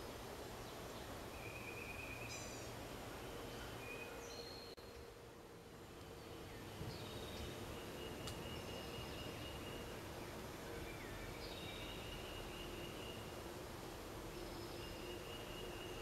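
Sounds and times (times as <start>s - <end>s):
low background hiss: 0.0s - 16.0s
songbirds whistling: 0.7s - 5.1s, 6.3s - 13.3s, 14.4s - 16.0s.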